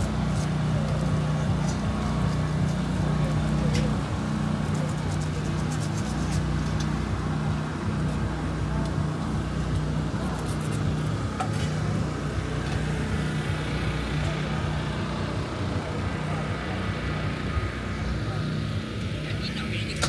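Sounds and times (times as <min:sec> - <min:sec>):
indistinct voices: 0:00.0 - 0:20.0
low engine drone: 0:00.0 - 0:20.0.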